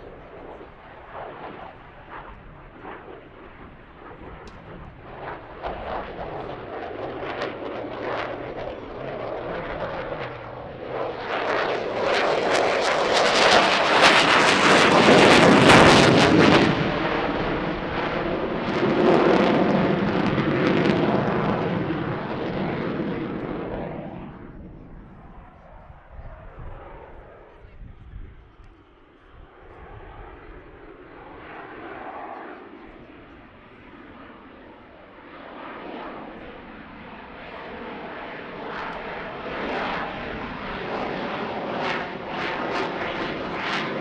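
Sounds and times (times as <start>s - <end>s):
airplane passing by: 0.0s - 44.0s.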